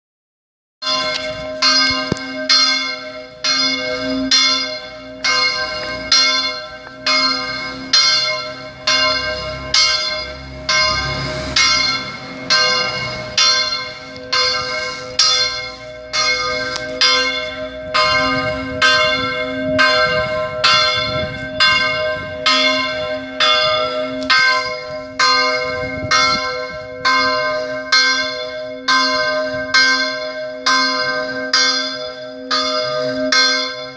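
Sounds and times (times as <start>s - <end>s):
large church bell ringing: 0.8s - 33.9s.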